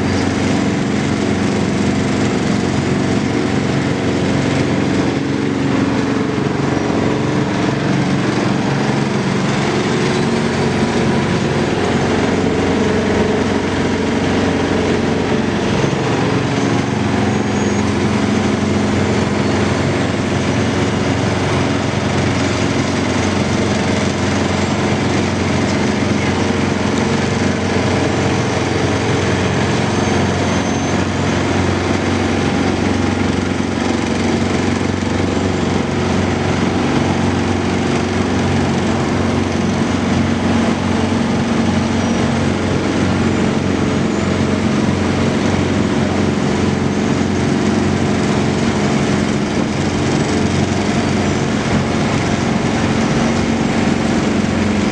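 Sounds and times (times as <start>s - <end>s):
engine droning steadily: 0.0s - 54.9s.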